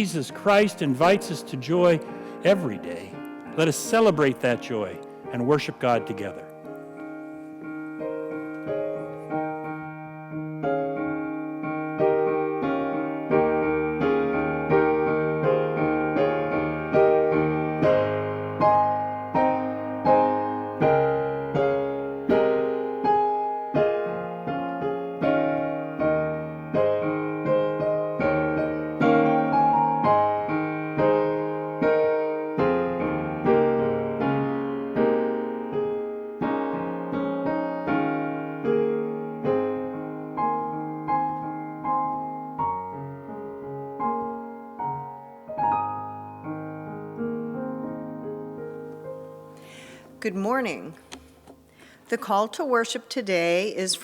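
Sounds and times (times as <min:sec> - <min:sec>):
solo piano chords: 0:00.0 - 0:51.9.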